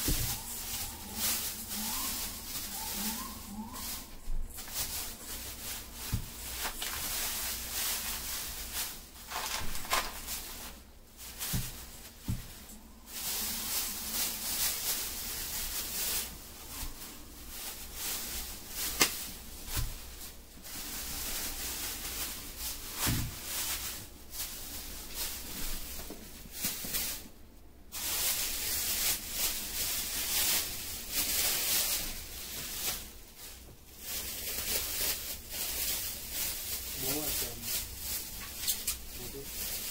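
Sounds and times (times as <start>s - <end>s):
plastic bags rustling: 0.0s - 39.9s.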